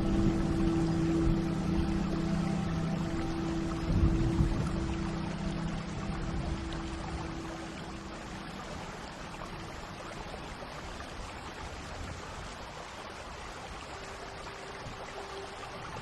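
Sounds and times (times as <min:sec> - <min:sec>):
heavy rain rushing: 0:00.0 - 0:16.0
soft ambient music: 0:00.0 - 0:16.0.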